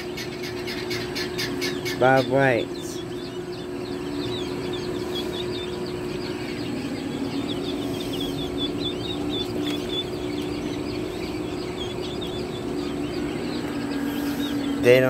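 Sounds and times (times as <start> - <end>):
quail chicks peeping: 0.0 - 15.0
steady low hum: 0.0 - 15.0.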